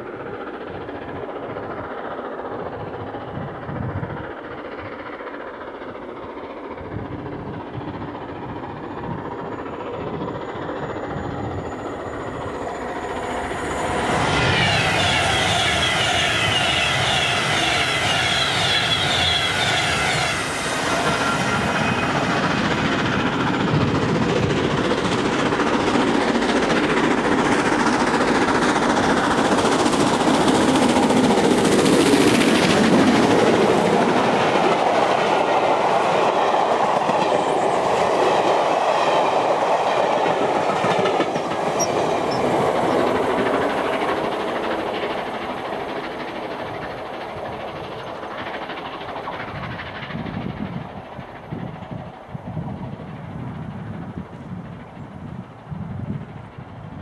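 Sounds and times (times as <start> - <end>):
electric train passing: 0.0 - 57.0
steam locomotive climbing: 0.0 - 57.0.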